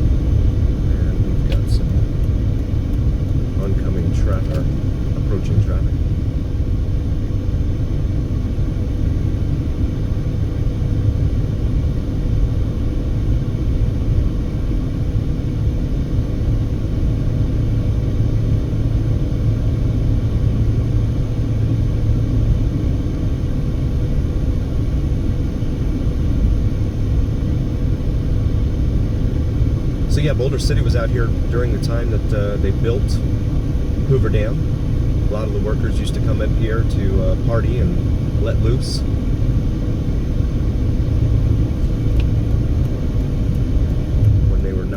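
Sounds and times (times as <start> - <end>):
car road and engine rumble: 0.0 - 44.9
faint constant hum: 0.0 - 44.9.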